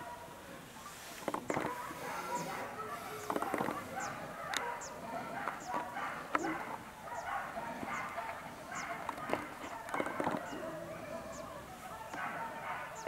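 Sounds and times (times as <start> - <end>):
birds chattering: 0.0 - 13.0.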